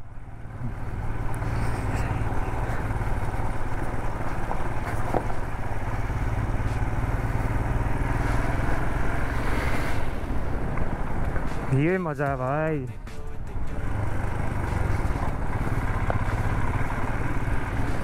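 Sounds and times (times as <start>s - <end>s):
motorcycle engine running: 0.0s - 11.7s, 13.4s - 18.0s
road and riding noise: 0.0s - 18.0s.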